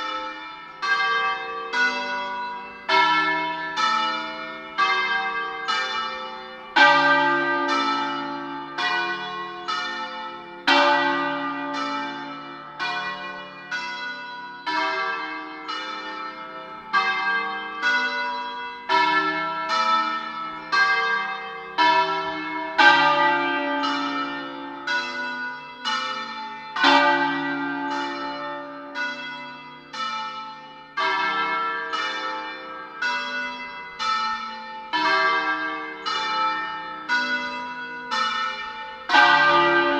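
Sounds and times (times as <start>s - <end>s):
church bells ringing a peal: 0.0s - 39.9s.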